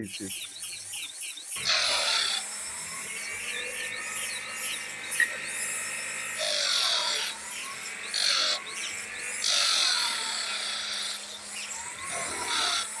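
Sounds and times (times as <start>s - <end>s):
sander motor humming: 0.0s - 13.0s
wood rasping on sandpaper disc: 0.0s - 13.0s.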